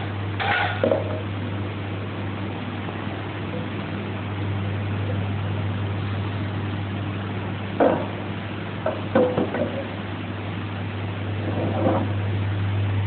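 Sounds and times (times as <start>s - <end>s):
low hum of machinery: 0.0s - 13.0s.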